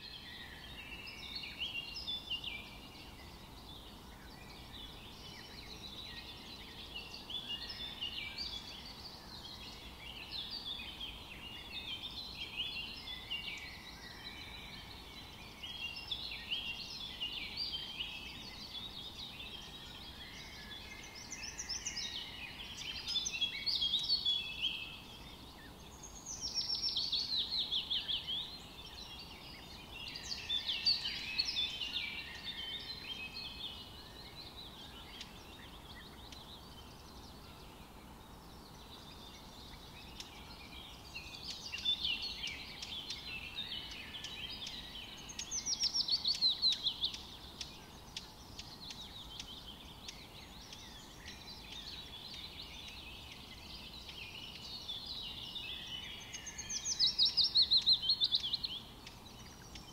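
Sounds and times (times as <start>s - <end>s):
faint steady background hiss: 0.0s - 59.9s
songbirds singing: 0.0s - 59.9s.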